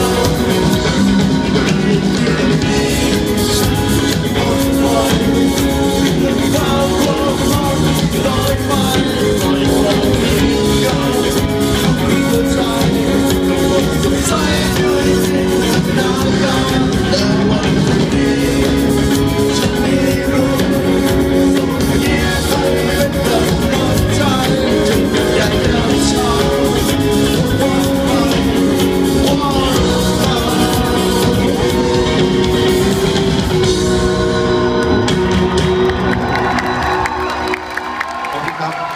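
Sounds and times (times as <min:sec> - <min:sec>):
male singer: 0:00.0 - 0:33.6
live band playing: 0:00.0 - 0:38.9.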